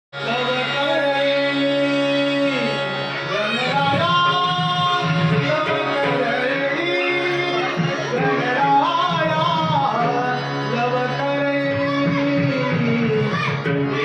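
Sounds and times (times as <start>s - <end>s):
held instrumental tones: 0.2s - 14.0s
voices singing devotional song: 0.2s - 14.0s.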